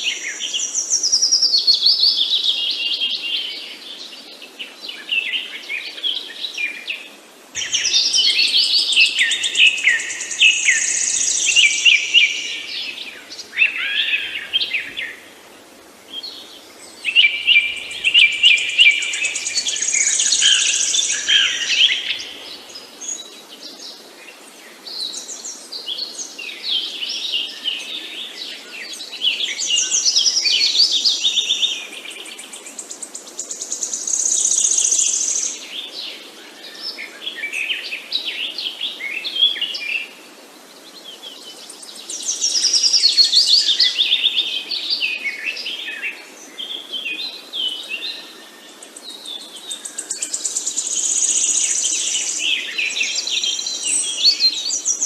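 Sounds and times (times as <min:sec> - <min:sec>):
songbirds chirping and singing: 0:00.0 - 0:39.9, 0:40.8 - 0:55.0
faint steady background hiss: 0:00.0 - 0:55.0.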